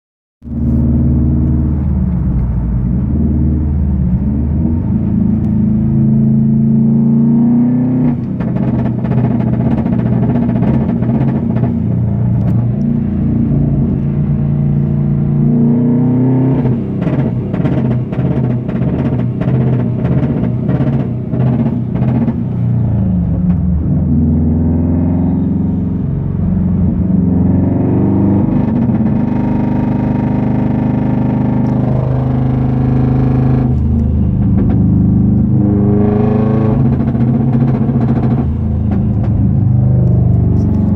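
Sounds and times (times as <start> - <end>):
car engine revving under load: 0.4 - 40.9.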